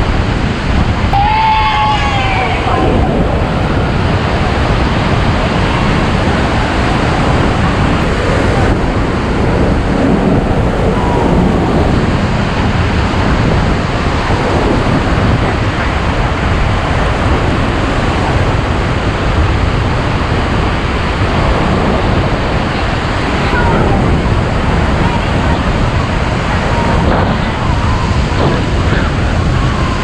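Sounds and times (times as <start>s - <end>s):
heavy falling water rushing: 0.4s - 30.0s.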